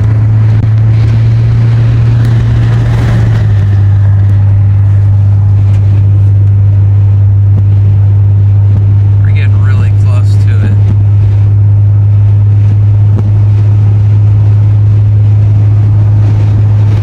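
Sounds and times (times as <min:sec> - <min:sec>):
engine and road drone: 0:00.0 - 0:17.0.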